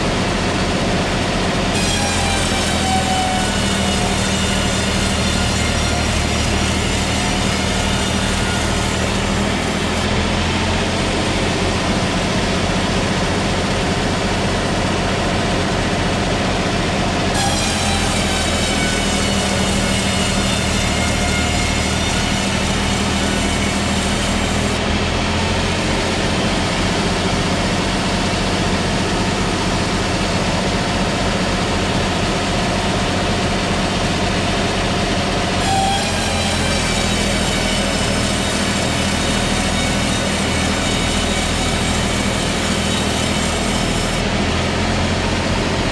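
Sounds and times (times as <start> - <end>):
high saw whine: 0.0 - 45.9
sawmill saw engine drone: 0.0 - 45.9.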